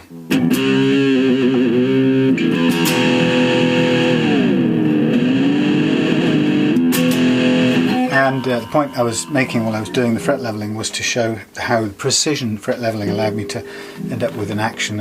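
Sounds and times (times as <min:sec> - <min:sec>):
electric guitar chord with vibrato: 0:00.1 - 0:10.8, 0:13.1 - 0:15.0.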